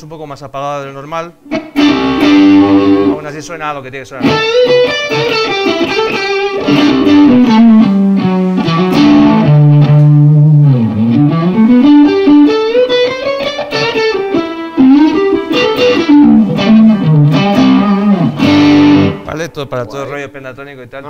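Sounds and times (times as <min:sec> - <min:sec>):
overdriven electric guitar blues lead: 0:01.4 - 0:03.2, 0:04.2 - 0:19.3.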